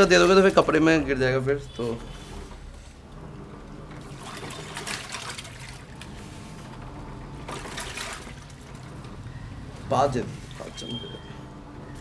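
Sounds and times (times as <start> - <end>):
water sloshing in washing machine: 0.0 - 12.0
low motor hum: 2.0 - 12.0.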